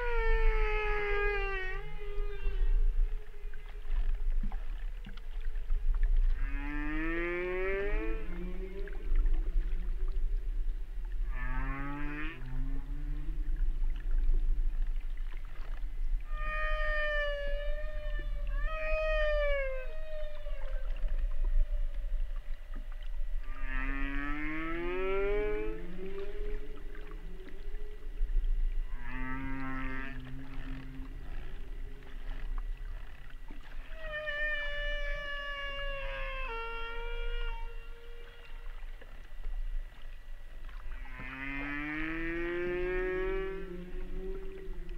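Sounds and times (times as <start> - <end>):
steady low hum: 0.0 - 44.9
whale calls: 0.0 - 44.9.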